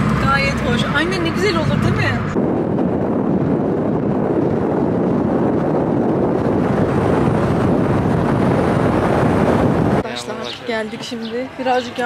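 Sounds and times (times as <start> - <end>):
moving car noise: 0.0 - 12.0
wind buffeting microphone: 0.0 - 12.0.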